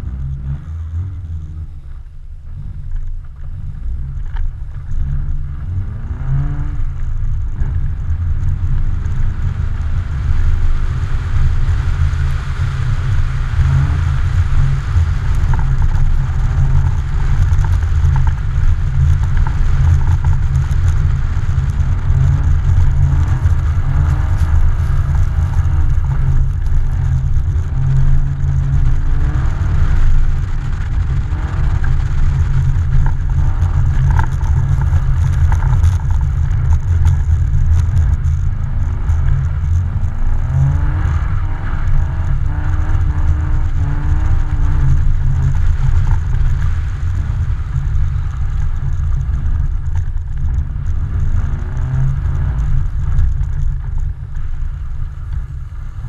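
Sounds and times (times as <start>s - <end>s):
car engine revving: 0.0s - 56.0s
heavy low rumble: 0.0s - 56.0s.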